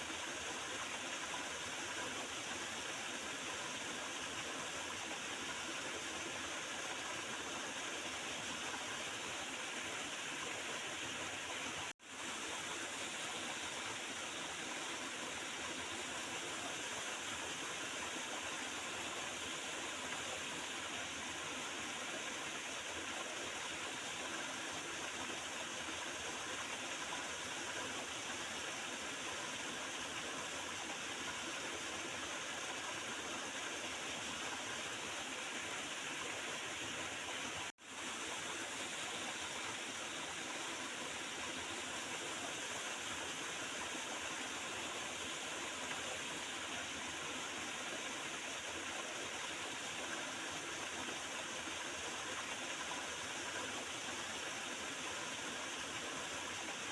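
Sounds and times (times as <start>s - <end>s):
river water gurgling: 0.0s - 56.9s.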